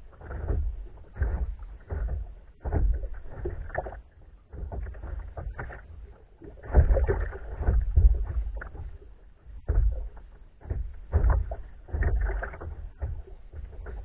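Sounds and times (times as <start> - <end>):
low rumble: 0.0 - 14.0
water splashing around kayak: 0.0 - 14.0.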